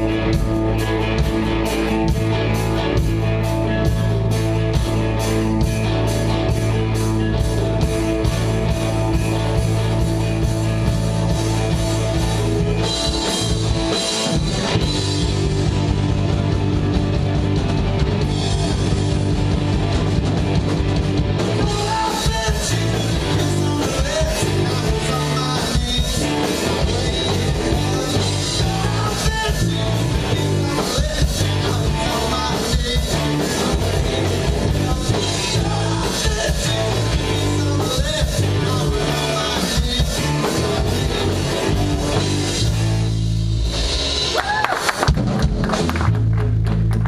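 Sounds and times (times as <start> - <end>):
bass guitar: 0.0 - 47.0
drum kit: 0.0 - 47.0
electric guitar: 0.0 - 47.0.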